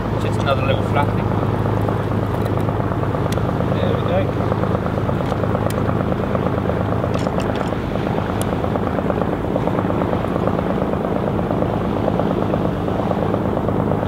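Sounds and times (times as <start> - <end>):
boat diesel engine chugging: 0.0 - 14.0.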